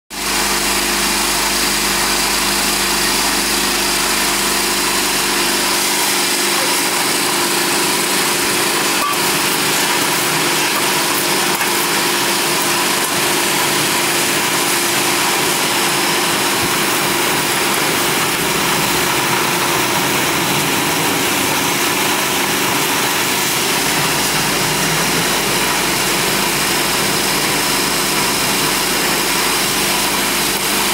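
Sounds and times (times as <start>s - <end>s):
processing machinery running: 0.1s - 30.9s
machine hum tones: 0.2s - 30.9s.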